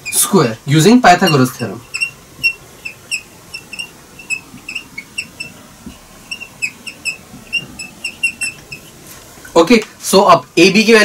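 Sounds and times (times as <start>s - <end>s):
whiteboard marker squeaking: 0.0s - 9.8s.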